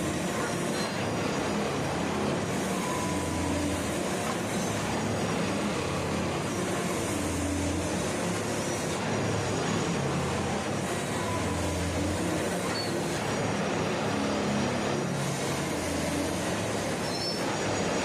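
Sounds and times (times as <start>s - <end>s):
track machine working: 0.0s - 18.0s.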